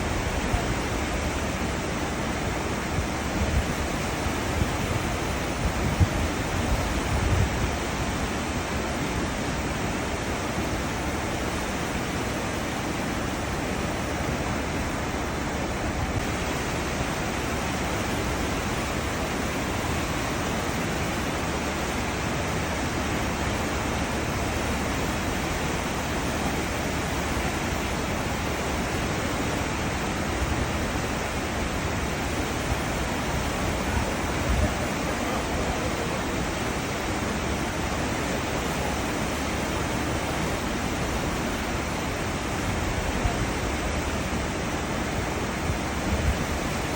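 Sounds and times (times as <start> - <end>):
water churning in ship's wake: 0.0 - 46.9.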